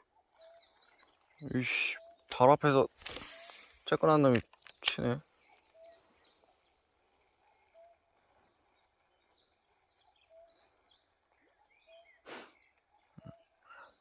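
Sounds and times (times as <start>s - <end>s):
faint birdsong chirps: 0.0s - 14.0s.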